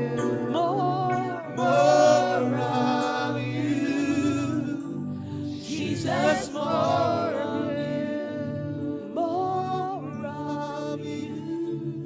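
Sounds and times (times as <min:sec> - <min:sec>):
low sustained accompaniment: 0:00.0 - 0:12.0
voices singing long notes: 0:00.0 - 0:12.0.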